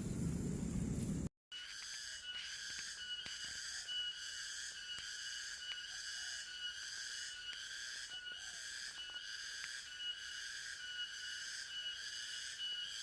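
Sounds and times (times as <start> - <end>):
insect chorus shrilling: 1.7 - 13.0.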